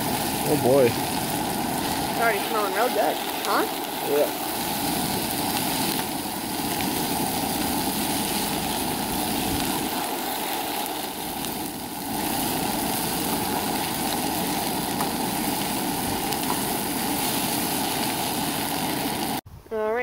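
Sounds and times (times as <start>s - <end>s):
camp stove burner running: 0.0s - 19.4s
food frying in a pan: 0.0s - 19.4s.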